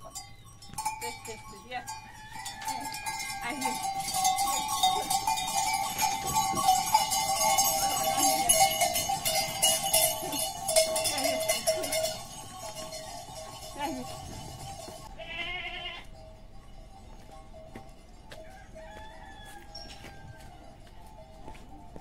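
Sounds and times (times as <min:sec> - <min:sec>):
goat bells clanking and jingling: 0:00.0 - 0:22.0.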